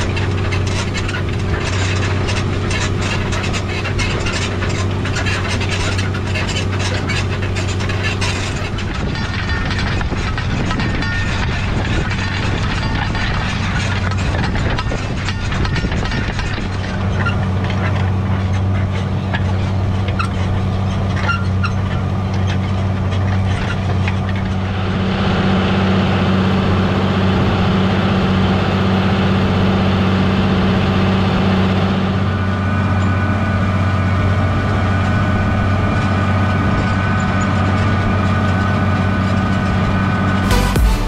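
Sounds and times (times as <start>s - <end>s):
tractor diesel engine under load: 0.0s - 41.0s.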